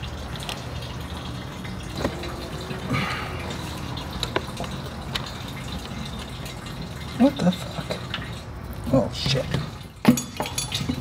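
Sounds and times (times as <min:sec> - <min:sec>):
fluid draining into a pan: 0:00.0 - 0:11.0.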